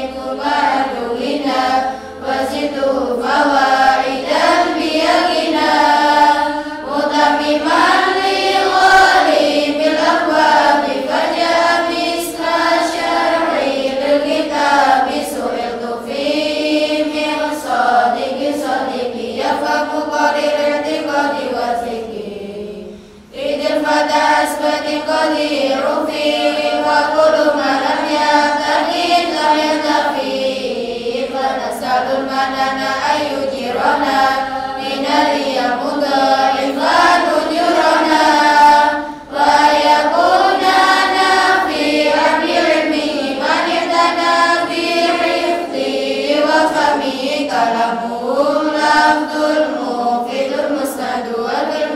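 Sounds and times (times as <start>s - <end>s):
girls chanting in unison: 0.0s - 51.9s.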